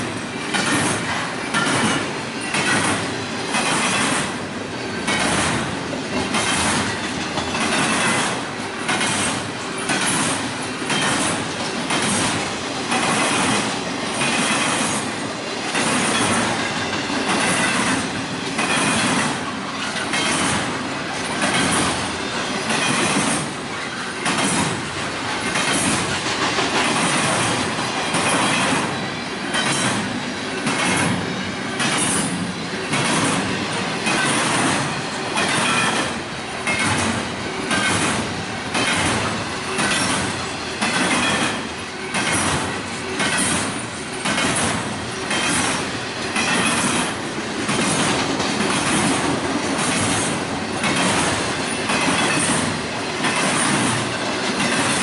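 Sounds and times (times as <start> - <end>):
train wheels clacking: 0.0 - 55.0.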